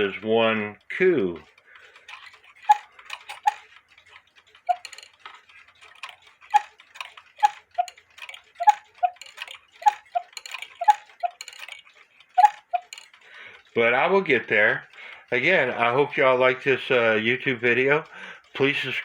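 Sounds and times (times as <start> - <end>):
cuckoo clock ticking: 0.0 - 19.0.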